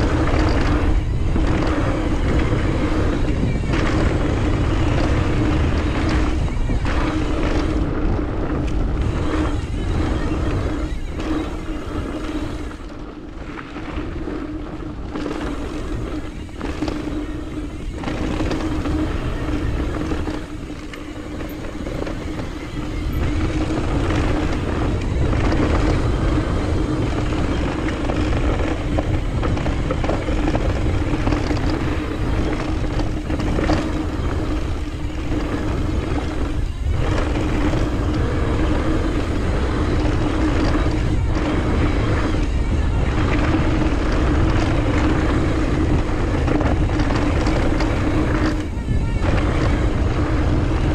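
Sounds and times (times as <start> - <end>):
steady buzzing tone: 0.0 - 50.9
wind and tyre noise: 0.0 - 50.9.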